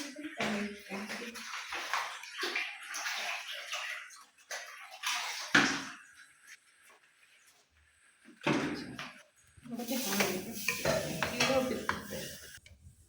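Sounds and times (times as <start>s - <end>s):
water running and splashing: 0.0s - 12.6s.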